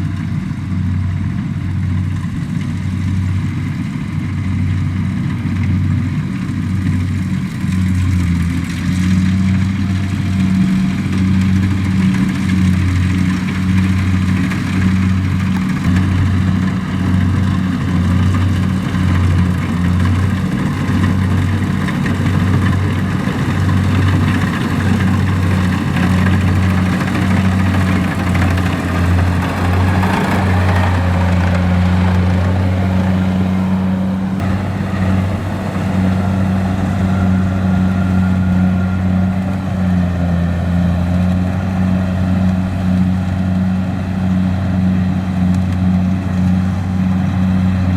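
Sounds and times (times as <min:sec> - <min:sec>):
combine harvester engine drone: 0:00.0 - 0:47.9
machinery noise: 0:05.2 - 0:47.9.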